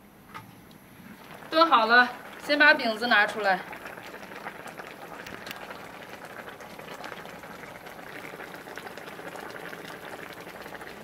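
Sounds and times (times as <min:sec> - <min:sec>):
sauce bubbling in a wok: 0:01.0 - 0:11.0.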